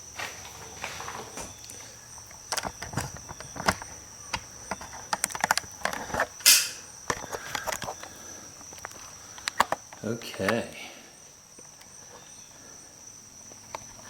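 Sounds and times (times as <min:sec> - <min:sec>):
high insect trill: 0:00.0 - 0:14.0.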